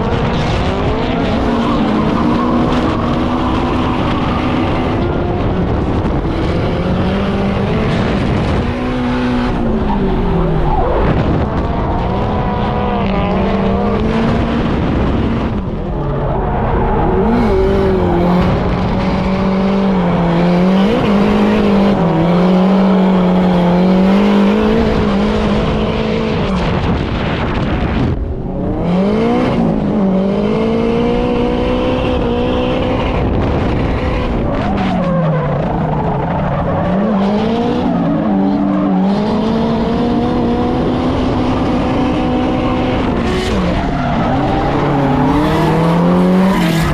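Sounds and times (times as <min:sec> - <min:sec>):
car engine at high revs: 0:00.0 - 0:46.9.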